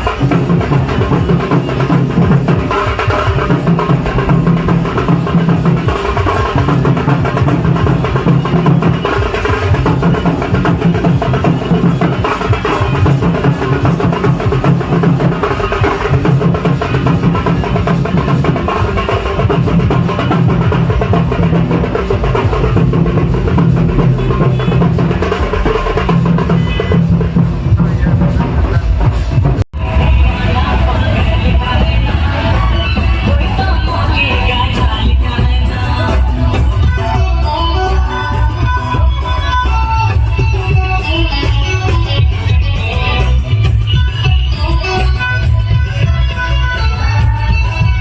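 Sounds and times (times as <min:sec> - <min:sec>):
loud music with fast drumming: 0:00.0 - 0:48.0.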